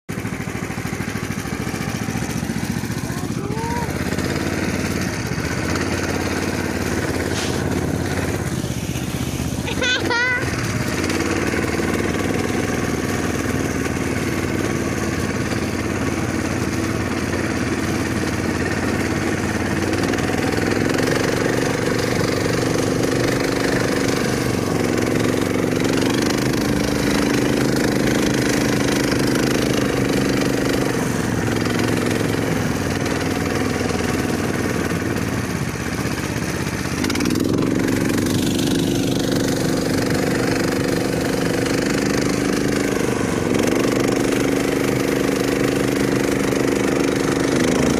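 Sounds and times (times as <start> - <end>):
vehicle engine revving: 0.1 - 47.9.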